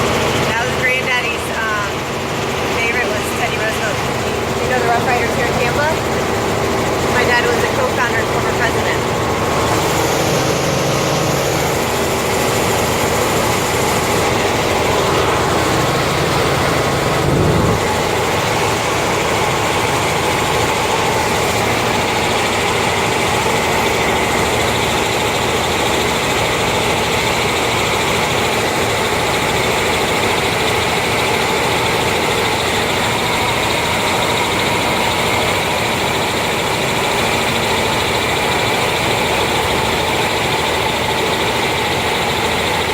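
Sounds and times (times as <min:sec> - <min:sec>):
helicopter engine and rotor noise: 0:00.0 - 0:42.9.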